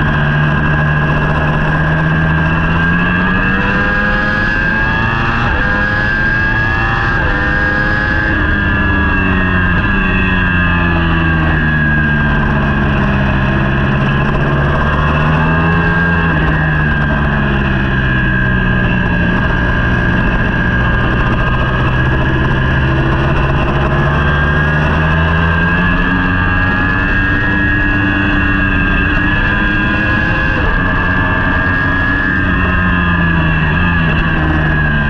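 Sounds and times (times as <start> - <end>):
motorbike engine revving: 0.0 - 35.0.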